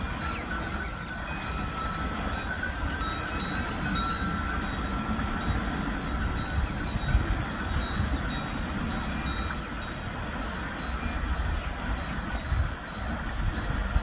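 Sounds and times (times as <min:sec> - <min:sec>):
water splashing from buckets: 0:00.0 - 0:14.0
water wheel rumbling and knocking: 0:00.0 - 0:14.0.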